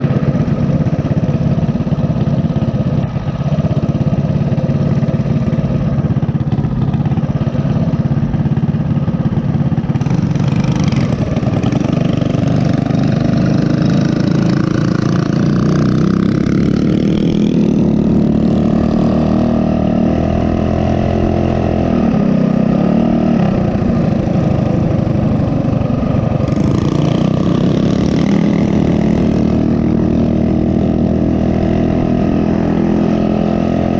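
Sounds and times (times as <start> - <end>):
minibike engine revving: 0.0 - 33.9.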